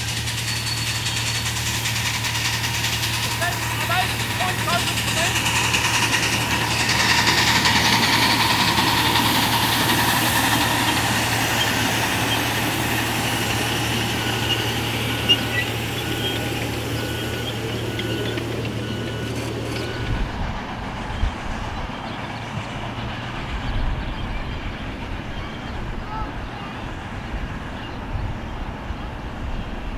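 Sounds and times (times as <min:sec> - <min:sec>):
freight cars rolling on rails: 0:00.0 - 0:29.9
model steam locomotive running: 0:00.0 - 0:29.9.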